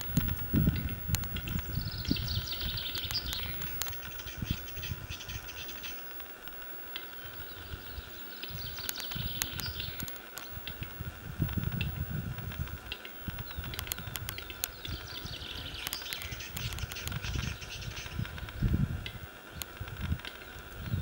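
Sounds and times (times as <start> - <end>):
small birds chirping: 0.0 - 21.0
bird clicking calls: 0.1 - 21.0.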